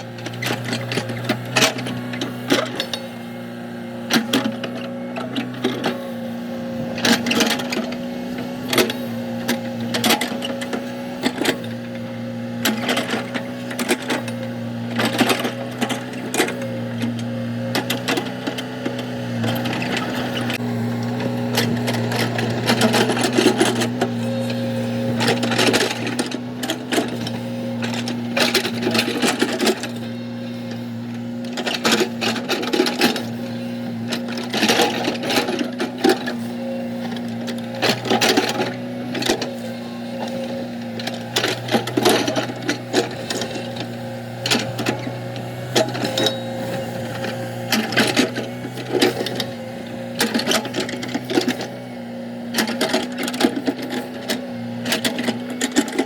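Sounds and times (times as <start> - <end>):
digger clanking and scraping: 0.0 - 56.0
excavator diesel engine running: 0.0 - 56.0.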